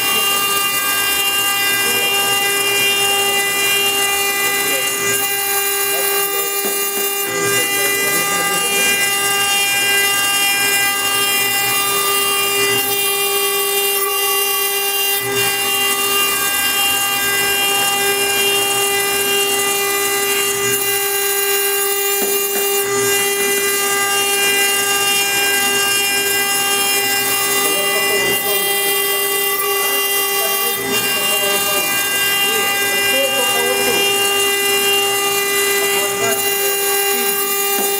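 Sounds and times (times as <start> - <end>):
router spindle whine: 0.0 - 37.9.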